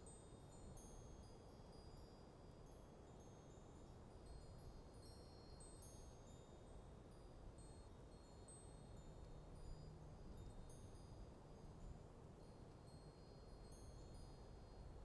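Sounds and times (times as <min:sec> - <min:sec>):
wind chimes tinkling: 0:00.0 - 0:15.0.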